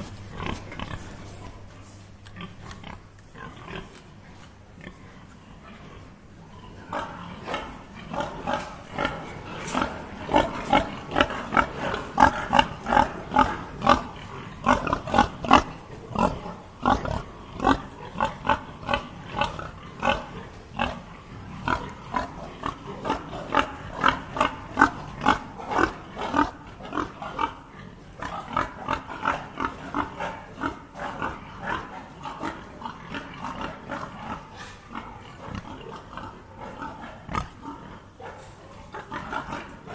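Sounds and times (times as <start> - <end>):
pigs grunting: 0.0 - 1.7, 2.4 - 4.1, 4.7 - 39.9.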